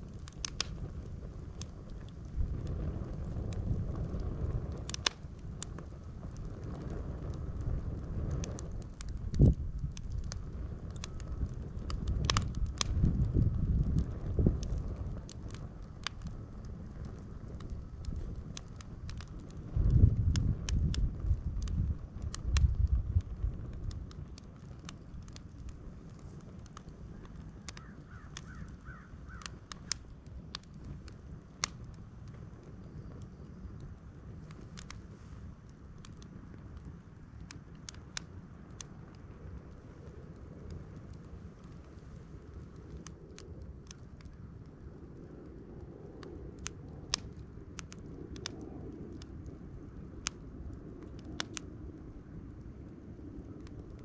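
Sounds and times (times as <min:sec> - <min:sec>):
campfire crackling and popping: 0:00.0 - 0:54.0
low steady rumble: 0:00.0 - 0:54.0.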